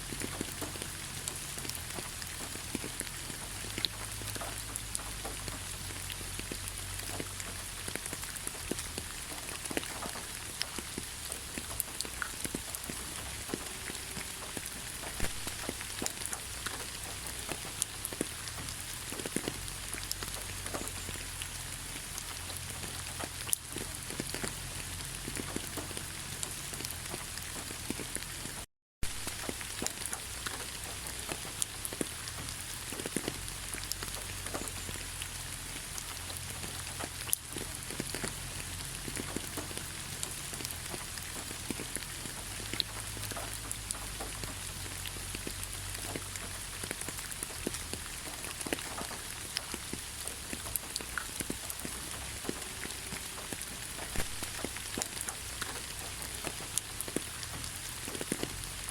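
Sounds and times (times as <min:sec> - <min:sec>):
drops ticking on branches: 0:00.0 - 0:58.9
steady rain hiss: 0:00.0 - 0:58.9.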